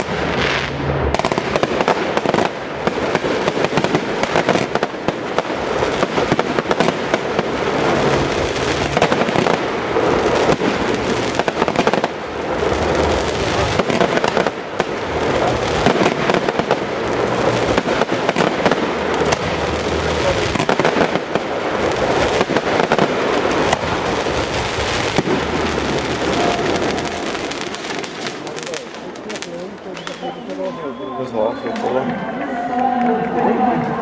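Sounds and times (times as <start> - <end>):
fireworks bursting and crackling: 0.0 - 32.0.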